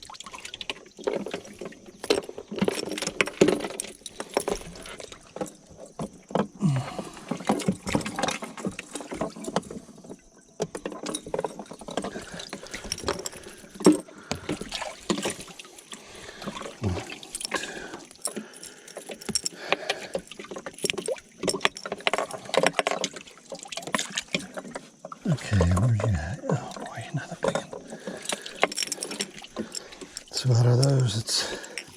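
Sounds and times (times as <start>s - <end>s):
water splashing around boat: 0.0s - 31.9s.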